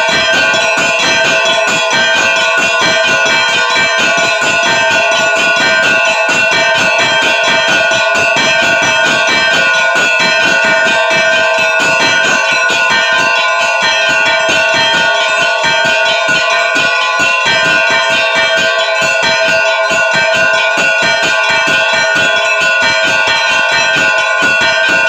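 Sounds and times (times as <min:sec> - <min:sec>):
large bells ringing: 0:00.0 - 0:25.0
small bells struck quickly: 0:00.0 - 0:25.0.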